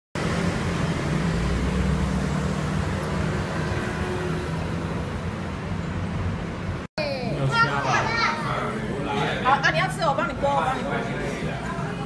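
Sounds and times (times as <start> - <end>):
engine hum from passing vehicles: 0.2 - 12.0
street traffic noise: 0.2 - 12.0.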